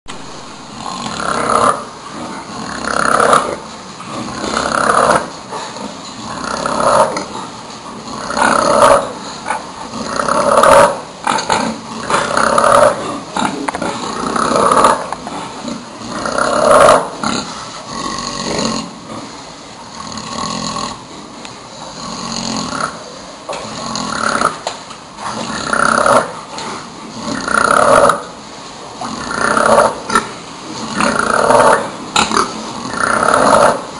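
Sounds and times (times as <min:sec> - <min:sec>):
pig snoring: 0:00.7 - 0:24.6, 0:25.2 - 0:28.4, 0:29.0 - 0:33.9.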